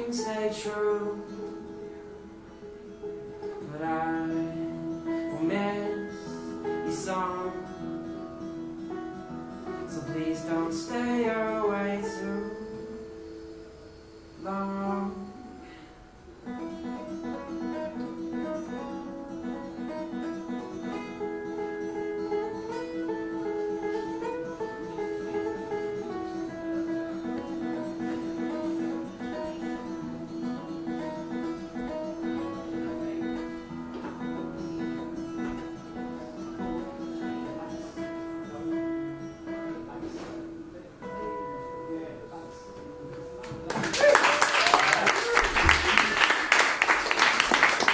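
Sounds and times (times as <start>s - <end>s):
acoustic guitar picking: 0.0s - 43.9s.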